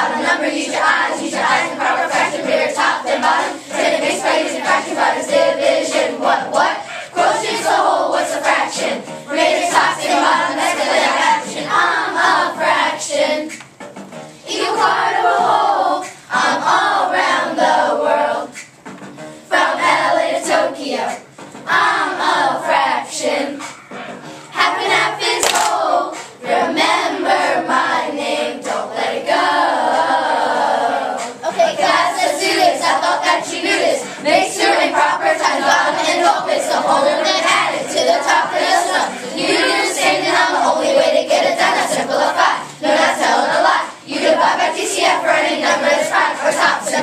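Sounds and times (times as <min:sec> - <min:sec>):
children singing in unison: 0:00.0 - 0:13.6, 0:14.4 - 0:18.7, 0:19.3 - 0:47.0
backing track: 0:00.0 - 0:47.0.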